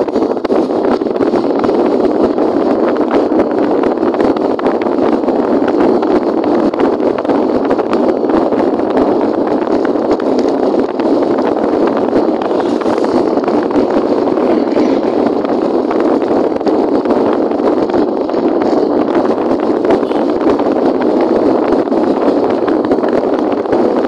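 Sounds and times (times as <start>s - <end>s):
motorcycle road noise: 0.0s - 24.0s
wind buffeting microphone: 0.0s - 24.0s.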